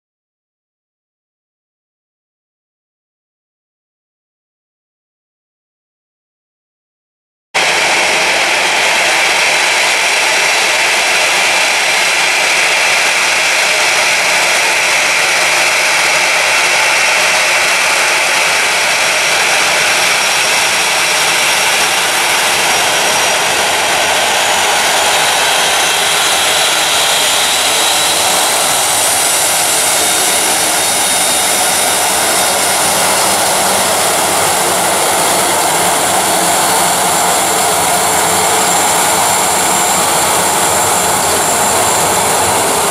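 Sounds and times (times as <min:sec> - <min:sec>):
jet engines running: 0:07.6 - 0:42.9
thin high whine: 0:07.6 - 0:42.9.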